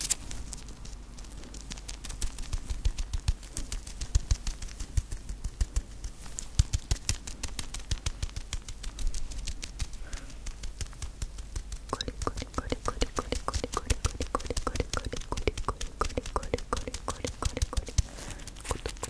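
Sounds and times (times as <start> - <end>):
rubber gloves crinkling: 0.0 - 19.0.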